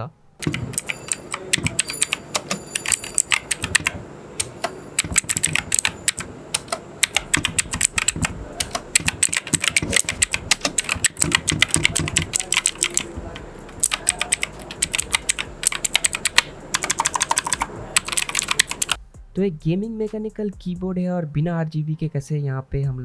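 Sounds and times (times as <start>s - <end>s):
mechanical keyboard clicks: 0.4s - 19.0s.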